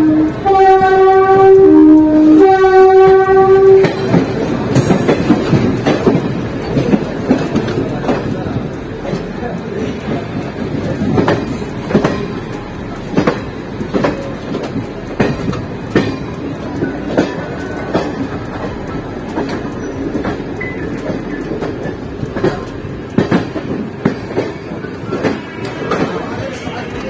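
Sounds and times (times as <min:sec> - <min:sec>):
rail joint clacks: 0:00.0 - 0:27.0
train wheel rumble: 0:00.0 - 0:27.0.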